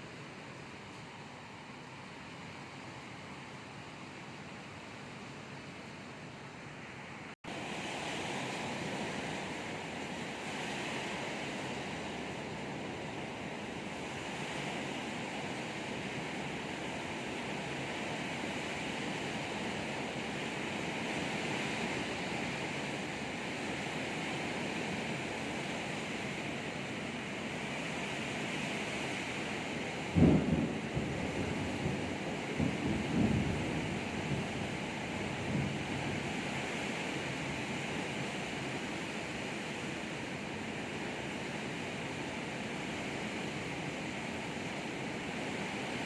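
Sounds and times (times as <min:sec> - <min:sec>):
heavy rain: 0:00.0 - 0:46.0
strong storm wind: 0:06.8 - 0:46.0.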